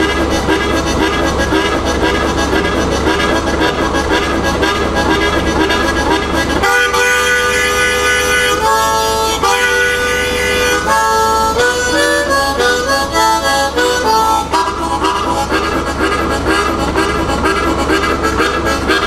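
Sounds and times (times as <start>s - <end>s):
blues harmonica: 0.0s - 19.0s.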